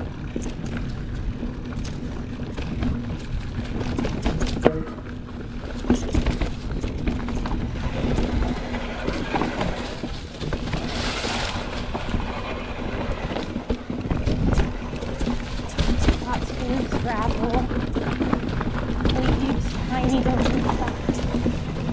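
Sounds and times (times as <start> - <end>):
bike knocking and rattling: 0.0 - 21.9.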